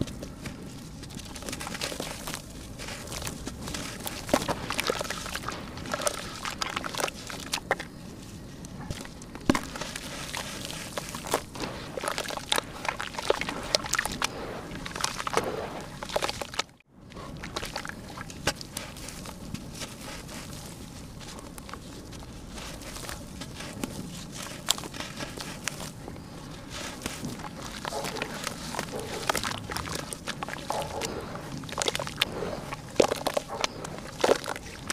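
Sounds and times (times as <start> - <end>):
dry dirt crumbling by hand: 0.0 - 34.9.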